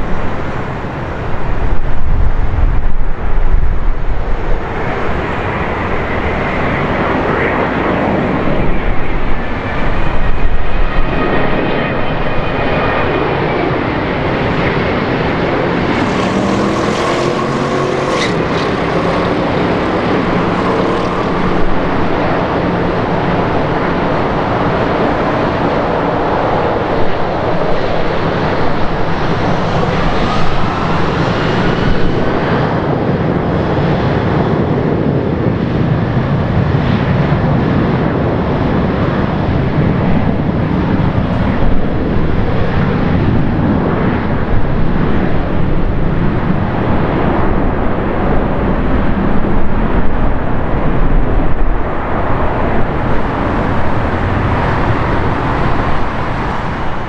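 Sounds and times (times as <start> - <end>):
jet engine noise: 0.0 - 57.0.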